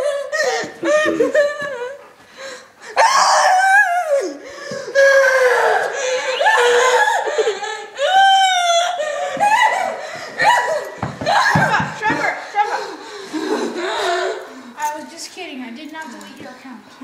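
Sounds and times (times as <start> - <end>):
children laughing and shrieking: 0.0 - 14.8.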